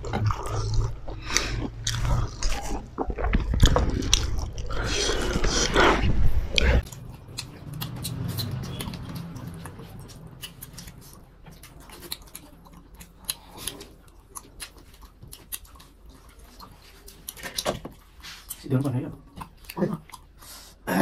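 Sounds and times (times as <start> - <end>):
wet chewing and lip smacks: 0.0 - 5.8, 6.5 - 20.7.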